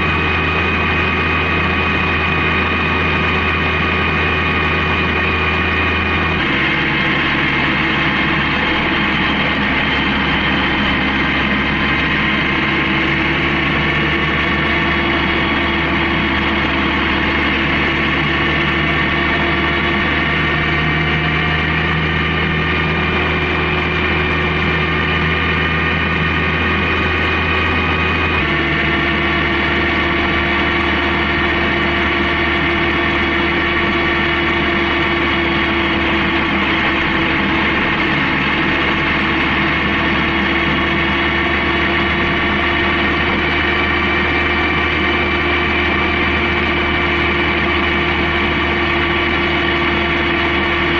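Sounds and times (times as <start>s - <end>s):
motorcycle engine droning: 0.0s - 50.9s.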